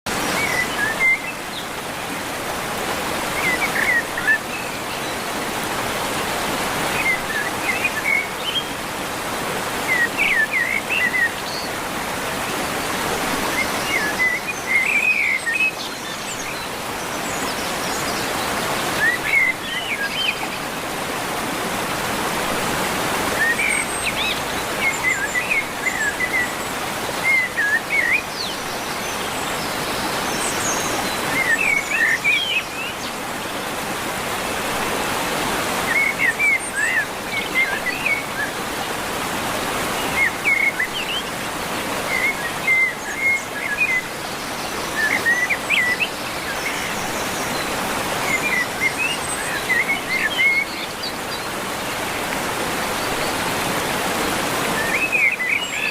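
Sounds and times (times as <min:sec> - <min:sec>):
waterfall rushing: 0:00.1 - 0:55.9.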